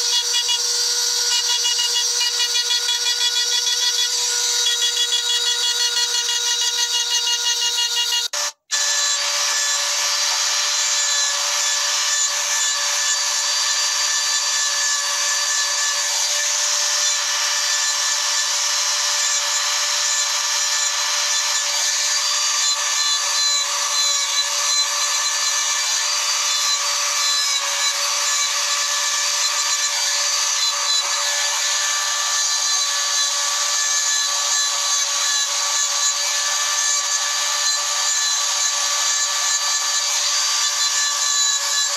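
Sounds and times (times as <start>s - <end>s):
rotary engraving tool whining: 0.0s - 41.9s.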